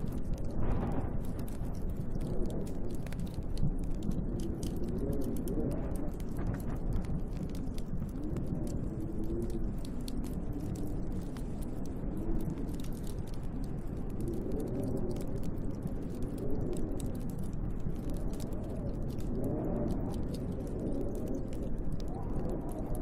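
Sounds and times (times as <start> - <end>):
low howling wind: 0.0 - 23.0
wood fire crackling: 0.0 - 23.0.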